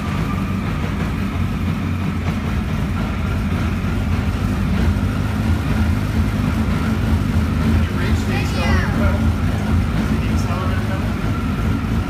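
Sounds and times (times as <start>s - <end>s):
race car engine idling: 0.0s - 12.0s.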